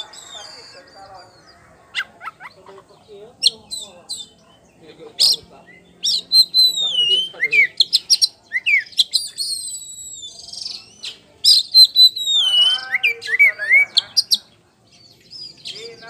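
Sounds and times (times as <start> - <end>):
bird singing varied song: 0.0 - 16.0.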